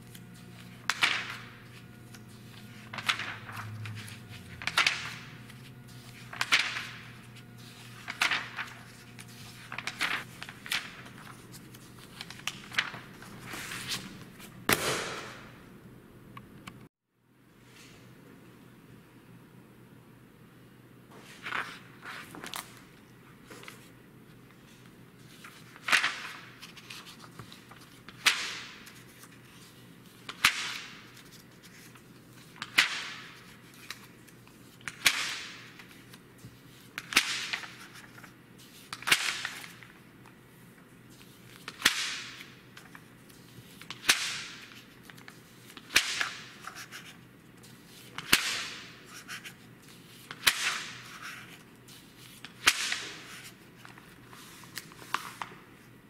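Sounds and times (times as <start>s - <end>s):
magazine pages turning: 0.0s - 14.6s, 21.2s - 23.9s, 24.5s - 40.4s, 41.1s - 55.9s.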